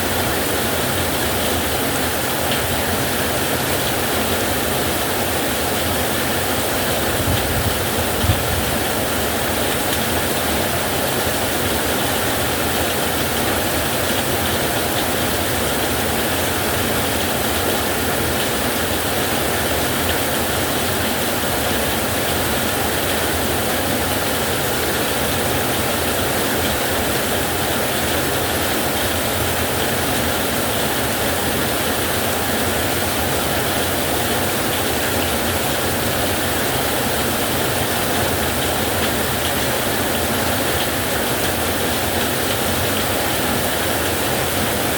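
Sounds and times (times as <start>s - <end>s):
heavy rain on a metal roof: 0.0s - 44.9s.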